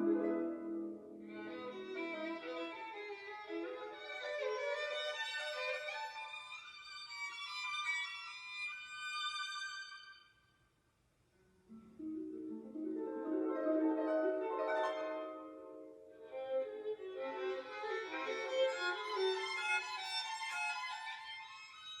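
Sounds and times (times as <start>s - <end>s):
violin waltz melody: 0.0s - 10.2s, 11.7s - 22.0s.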